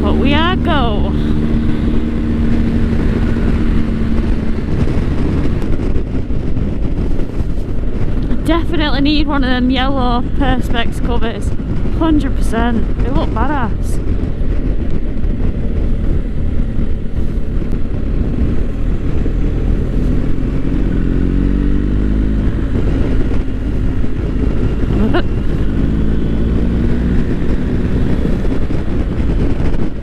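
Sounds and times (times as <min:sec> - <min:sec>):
motorcycle engine running: 0:00.0 - 0:30.0
road rumble: 0:00.0 - 0:30.0
wind noise: 0:00.0 - 0:30.0.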